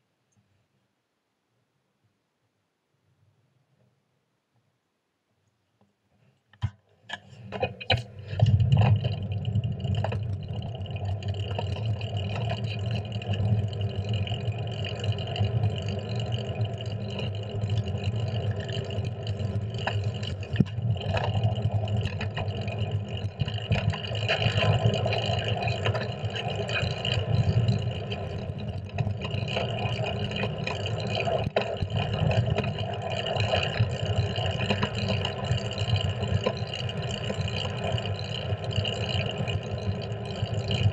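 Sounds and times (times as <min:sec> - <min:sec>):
bike knocks and rattles: 0:06.6 - 0:40.9
wind and road rumble: 0:07.3 - 0:40.9.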